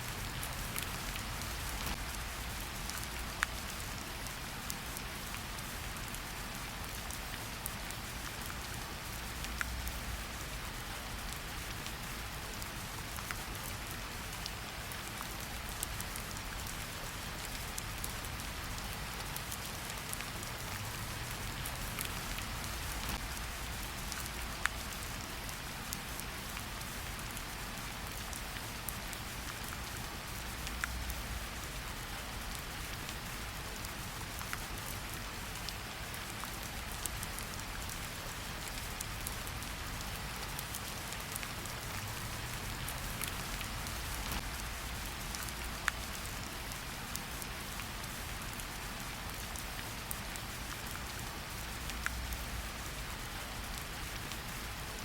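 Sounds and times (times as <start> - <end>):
steady rain in forest: 0.0 - 55.0.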